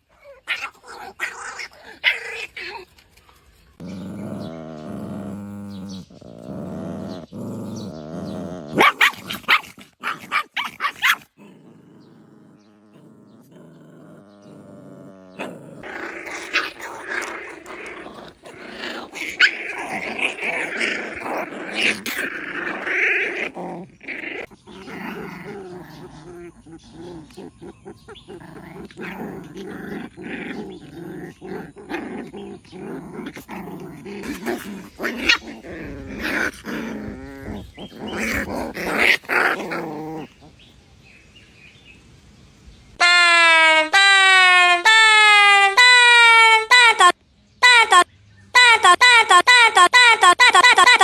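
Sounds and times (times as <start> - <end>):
puppy growling and barking: 0.0 - 40.8.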